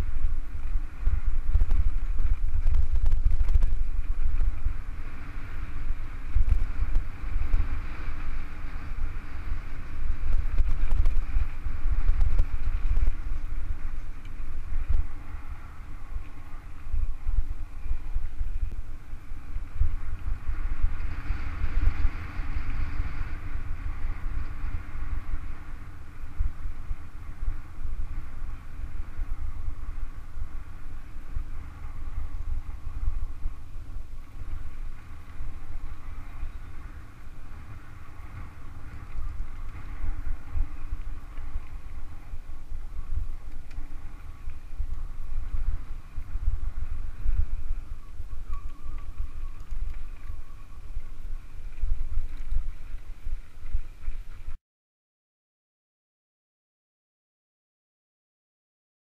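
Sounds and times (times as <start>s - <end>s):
bike tyres hissing on dirt: 0.0s - 54.6s
wind buffeting microphone: 0.0s - 54.6s.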